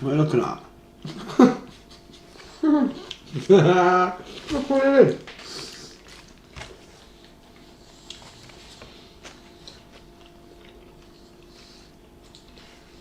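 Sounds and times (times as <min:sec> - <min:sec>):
faint steady hum: 0:00.0 - 0:13.0
people chewing food: 0:00.9 - 0:13.0.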